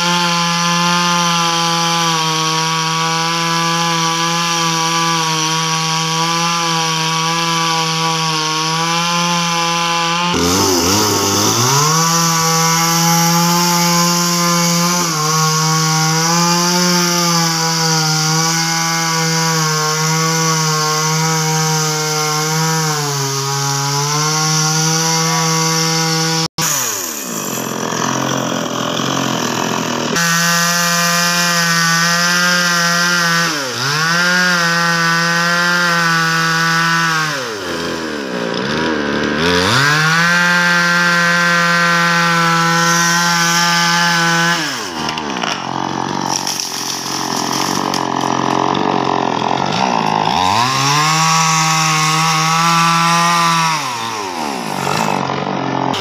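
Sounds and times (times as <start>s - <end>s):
chainsaw sawing through trunk: 0.0s - 56.0s.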